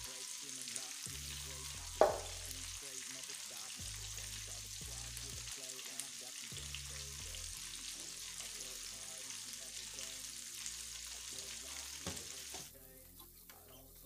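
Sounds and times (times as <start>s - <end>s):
oil sizzling and crackling: 0.0s - 12.8s.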